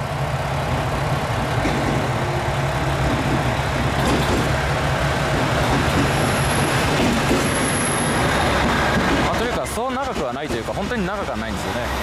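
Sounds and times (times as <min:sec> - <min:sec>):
diesel engine drone: 0:00.0 - 0:12.0
train wheel and rail noise: 0:00.0 - 0:12.0.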